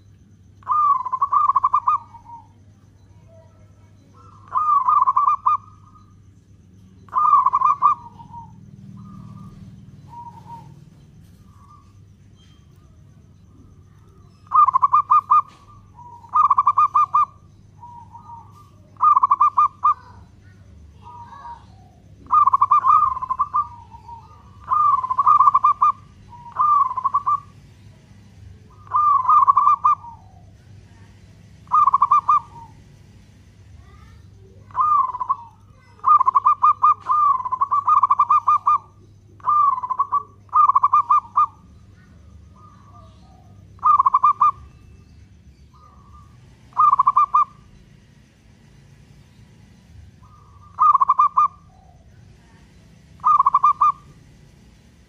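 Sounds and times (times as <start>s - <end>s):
dove stuttering coos: 0.0s - 55.0s.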